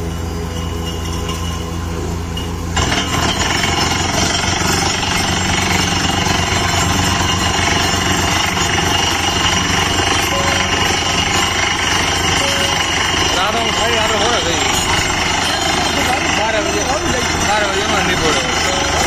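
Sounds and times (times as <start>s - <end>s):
drilling rig engine: 0.0s - 19.0s
air hammer pounding: 2.8s - 19.0s.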